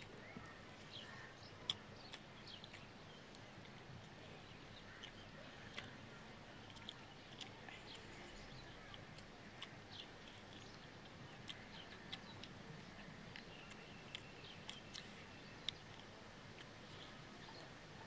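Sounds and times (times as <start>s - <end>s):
chewing clicks and smacks: 0.0s - 18.0s.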